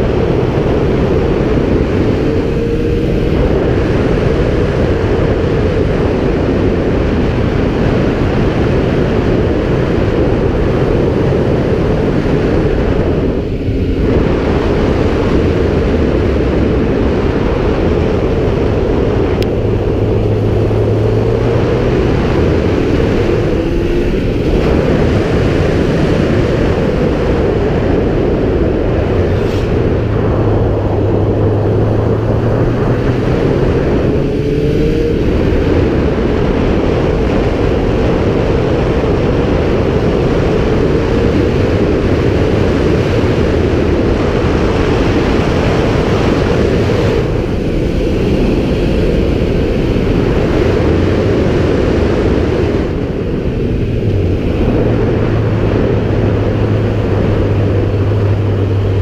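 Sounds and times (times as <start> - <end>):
motorcycle engine running: 0.0 - 59.0
wind rush over microphone: 0.0 - 59.0.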